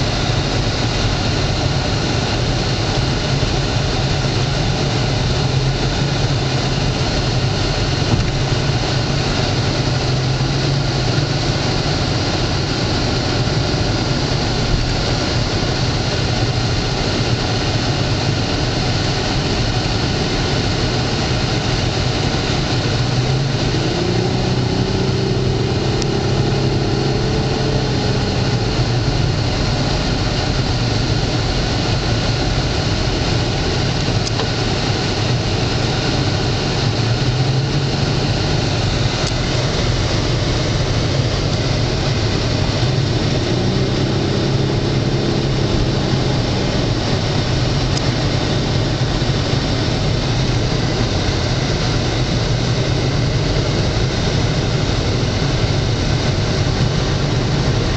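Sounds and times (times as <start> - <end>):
car engine drone: 0.0 - 57.9
road and wind noise: 0.0 - 57.9.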